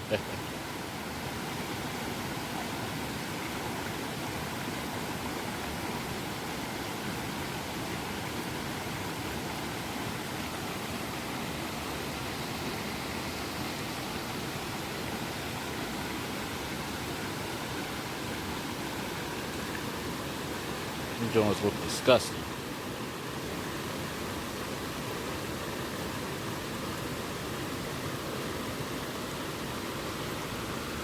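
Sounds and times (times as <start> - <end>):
water rushing over waterfall: 0.0 - 31.0.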